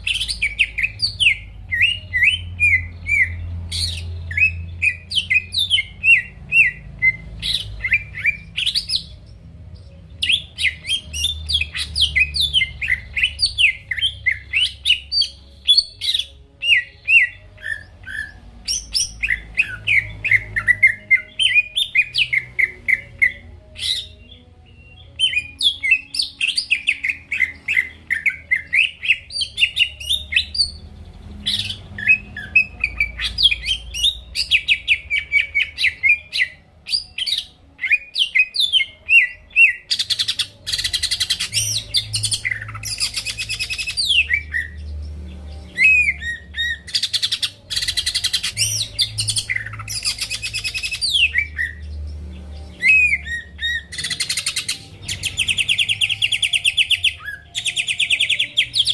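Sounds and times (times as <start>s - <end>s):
bird chirping song: 0.0s - 58.9s.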